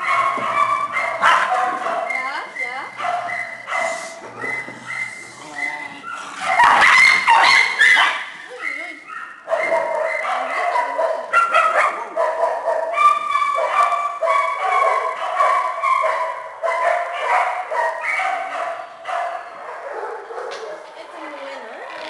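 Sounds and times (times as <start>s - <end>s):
small dogs barking and yipping: 0.0s - 21.5s.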